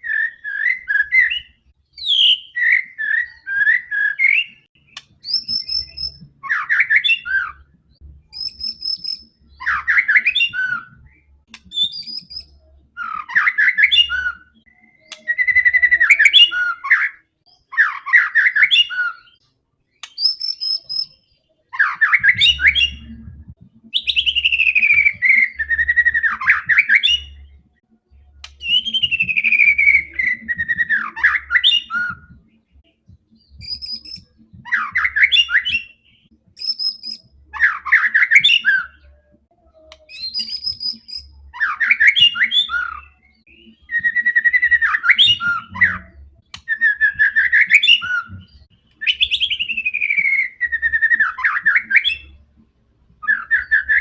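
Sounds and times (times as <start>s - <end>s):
bird singing: 0.0s - 52.6s, 53.2s - 54.0s.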